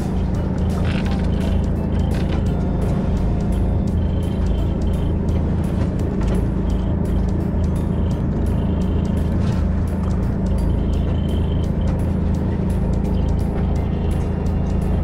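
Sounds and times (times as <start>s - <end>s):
background music: 0.0s - 15.0s
boat engine running: 0.0s - 15.0s.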